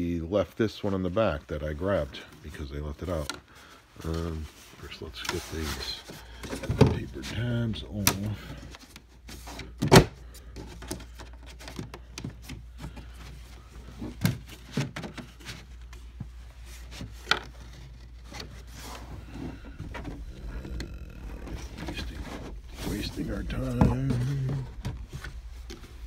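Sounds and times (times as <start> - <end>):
paper tabs rustling and scraping: 0.8 - 26.0.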